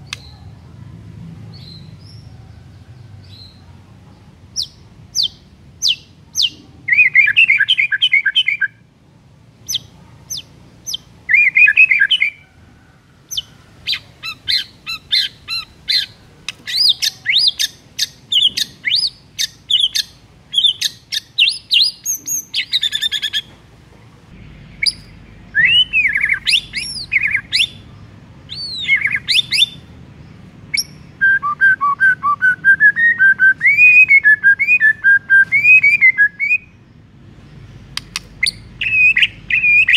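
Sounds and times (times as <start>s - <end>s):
bird singing varied song: 0.0s - 0.7s, 1.4s - 8.9s, 9.6s - 23.6s, 24.3s - 39.9s.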